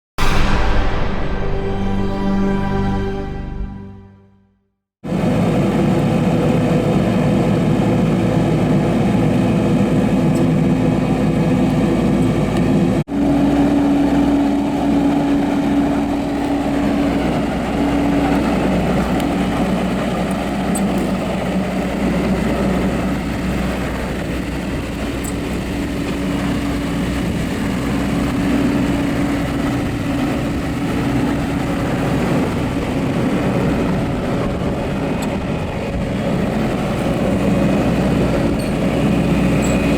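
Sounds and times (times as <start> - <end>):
diesel engine running: 5.1 - 39.9.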